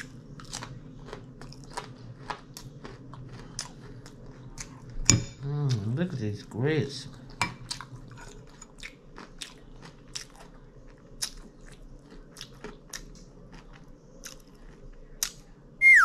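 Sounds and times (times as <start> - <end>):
chewing with crunches: 0.0 - 6.0, 7.0 - 16.0.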